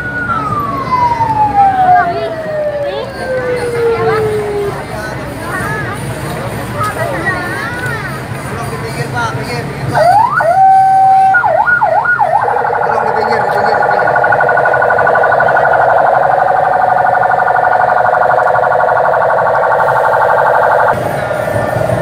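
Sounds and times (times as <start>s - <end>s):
electronic siren warbling: 0.0s - 6.0s, 10.0s - 22.0s.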